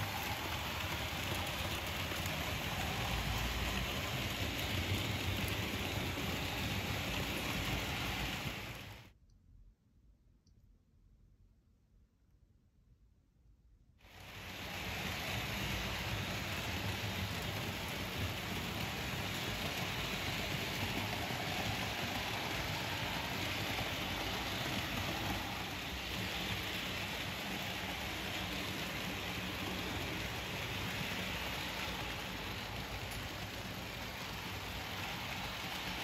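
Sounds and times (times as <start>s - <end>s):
model train wheels rolling on rail: 0.0s - 9.1s, 14.0s - 36.0s.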